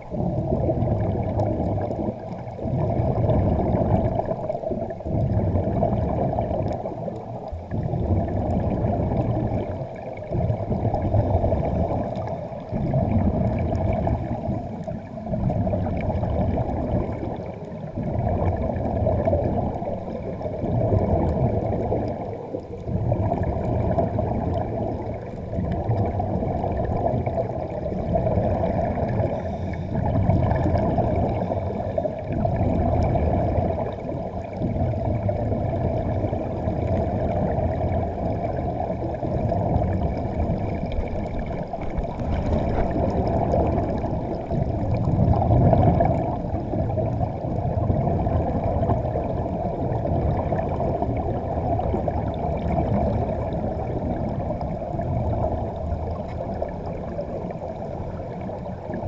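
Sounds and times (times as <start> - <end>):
air bubbling underwater: 0.0 - 57.5.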